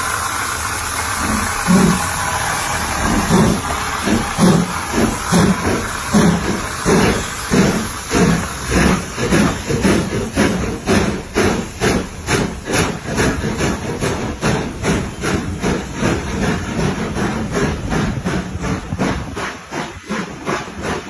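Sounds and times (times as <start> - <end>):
steam hissing: 0.0 - 21.0
steam locomotive chuffing: 0.0 - 21.0.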